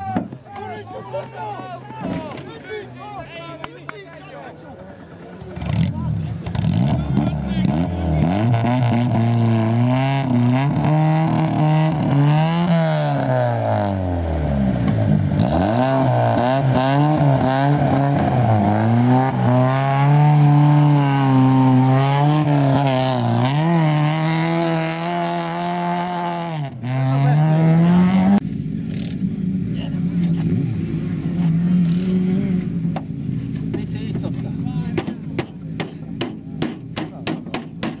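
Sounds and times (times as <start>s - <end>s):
rally car engine revving: 4.6s - 38.0s.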